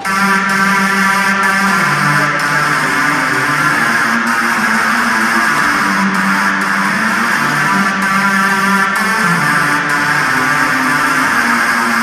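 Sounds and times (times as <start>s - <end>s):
guitar music over loudspeakers: 0.0s - 12.0s.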